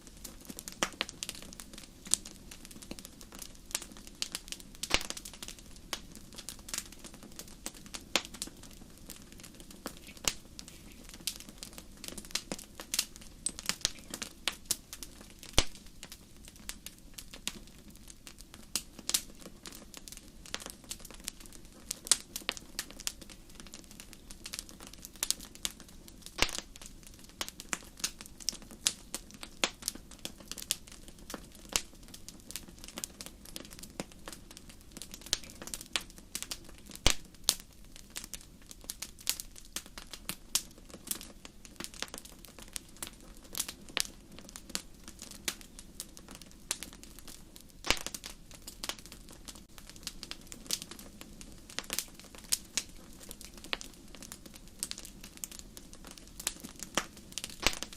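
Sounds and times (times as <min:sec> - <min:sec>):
low hiss: 0:00.0 - 0:57.9
wood fire crackling and popping: 0:00.0 - 0:57.9.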